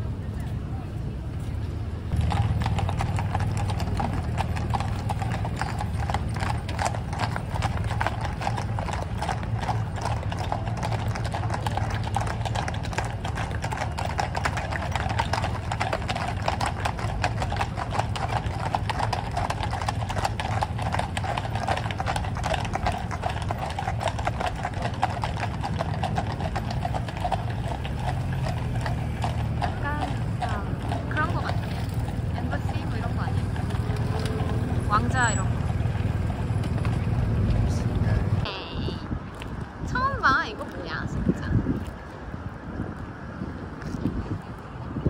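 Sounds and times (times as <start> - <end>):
horse hooves clip-clopping on road: 0.0 - 45.0.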